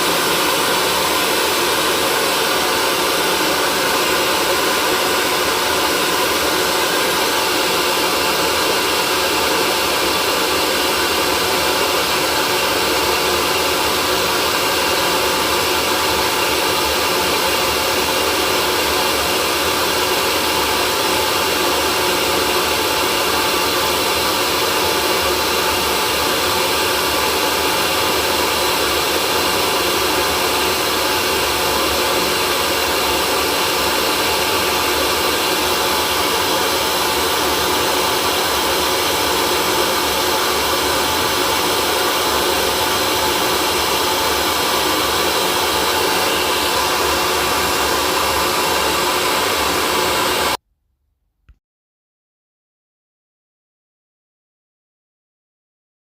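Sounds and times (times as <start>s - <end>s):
hair dryer running: 0.0s - 50.6s.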